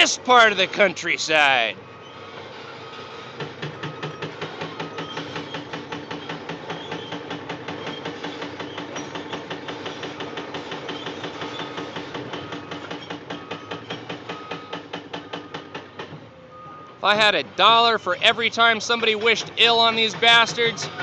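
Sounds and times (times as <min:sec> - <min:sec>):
jackhammer pounding: 0:00.0 - 0:16.2, 0:17.2 - 0:21.0.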